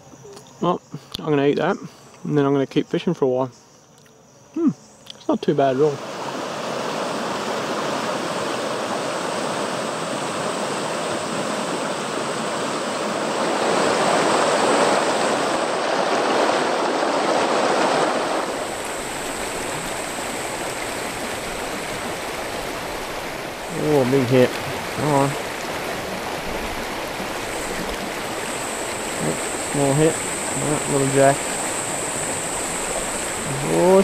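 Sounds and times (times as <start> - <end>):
water rushing over boulders: 5.8 - 34.0.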